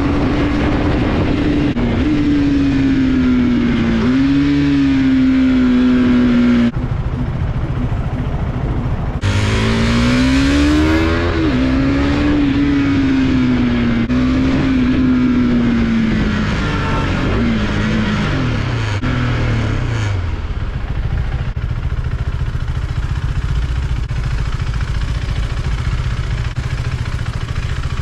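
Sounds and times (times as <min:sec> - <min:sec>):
motorcycle engine: 0:00.0 - 0:28.0
wind and road noise: 0:00.0 - 0:28.0.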